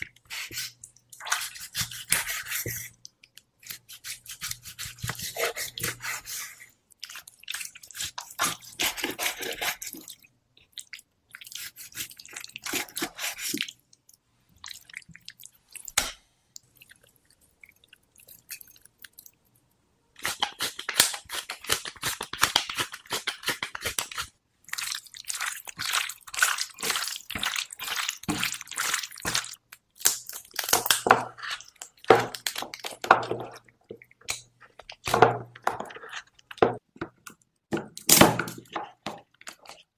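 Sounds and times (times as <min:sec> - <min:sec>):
meat mixed in a bowl: 0:00.0 - 0:19.6, 0:20.2 - 0:39.9.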